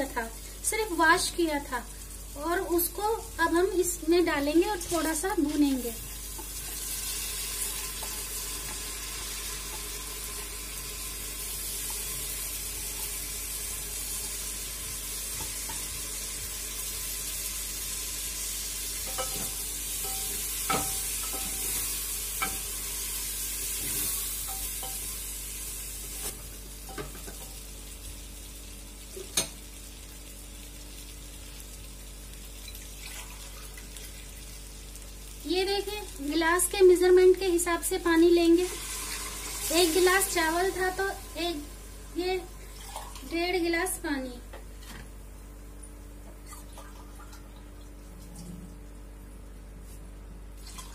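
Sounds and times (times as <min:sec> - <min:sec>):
rice sizzling in a pot: 0:00.0 - 0:43.3.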